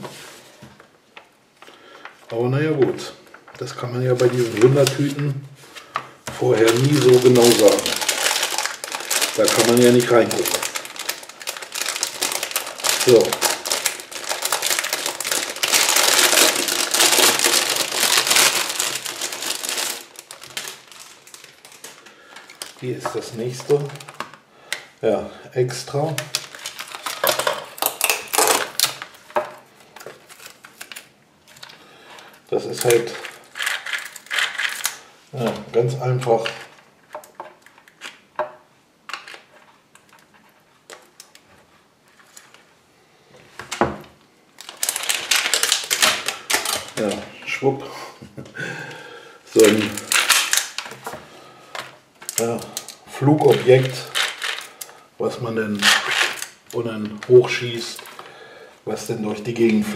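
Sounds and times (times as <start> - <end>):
plastic packaging crinkling: 0.0 - 25.0, 26.0 - 42.8, 43.5 - 47.7, 49.5 - 59.9.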